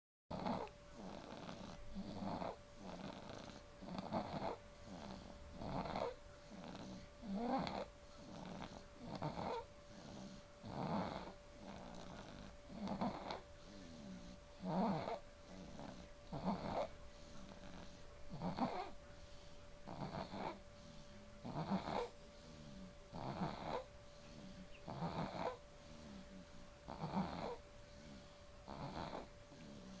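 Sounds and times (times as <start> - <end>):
baby snoring: 0.3 - 30.0
soft breathing: 0.3 - 30.0.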